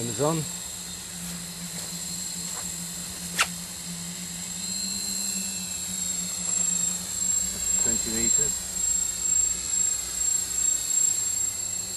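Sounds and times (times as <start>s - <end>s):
drone propellers humming: 0.0s - 11.9s.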